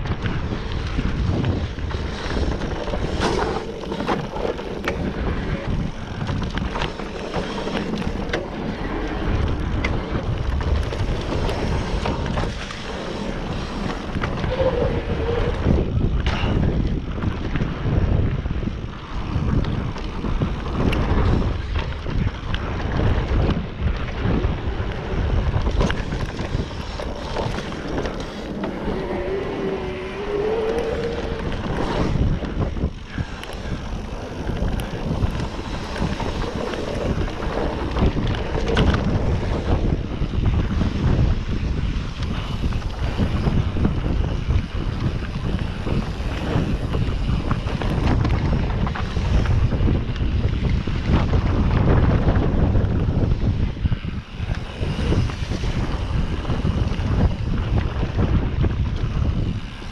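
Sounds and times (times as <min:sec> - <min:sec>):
bike rattling on dirt trail: 0:00.0 - 0:59.9
wind on microphone: 0:00.0 - 0:59.9.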